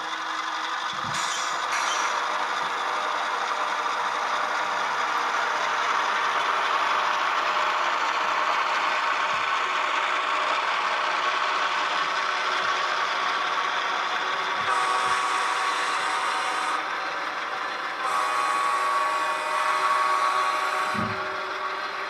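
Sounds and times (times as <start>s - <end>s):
diesel engine sound from speakers: 0.0s - 22.0s
model train mechanical rattle: 0.0s - 22.0s.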